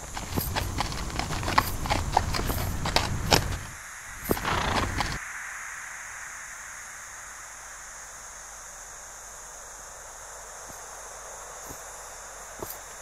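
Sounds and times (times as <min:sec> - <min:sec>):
wind hiss: 0:00.0 - 0:13.0.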